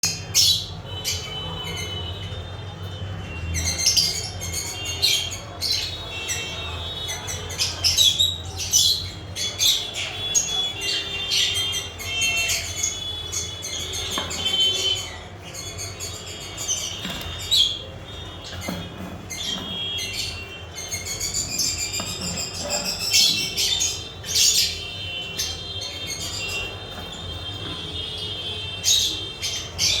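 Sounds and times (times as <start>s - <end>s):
birds chirping and squawking: 0.0s - 30.0s.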